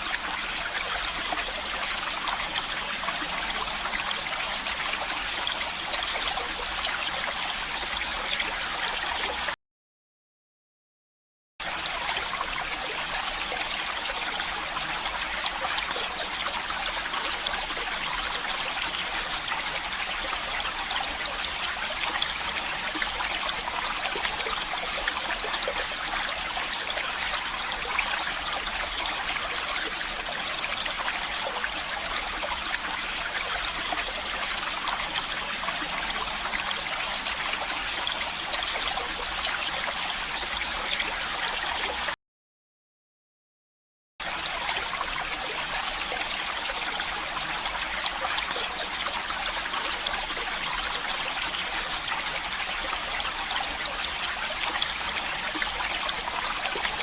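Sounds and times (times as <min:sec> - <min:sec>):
stream water trickling: 0:00.0 - 0:09.6, 0:11.6 - 0:42.2, 0:44.2 - 0:57.0.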